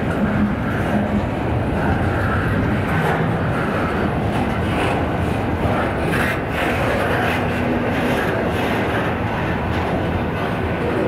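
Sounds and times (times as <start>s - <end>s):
train passing rumble: 0.0s - 11.0s.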